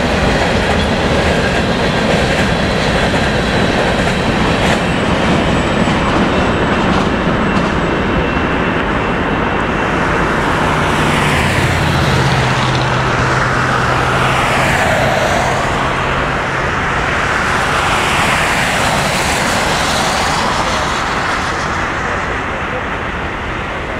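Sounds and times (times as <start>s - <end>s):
freight train cars rolling: 0.0s - 23.9s.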